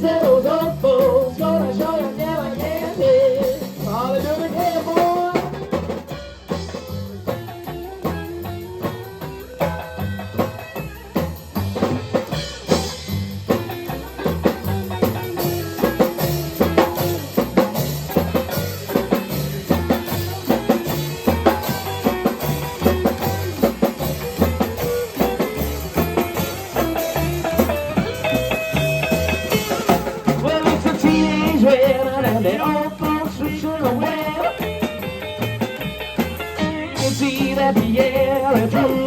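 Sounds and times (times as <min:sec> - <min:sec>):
bass guitar: 0:00.0 - 0:39.0
drum kit beat: 0:00.0 - 0:39.0
rockabilly band playing: 0:00.0 - 0:39.0.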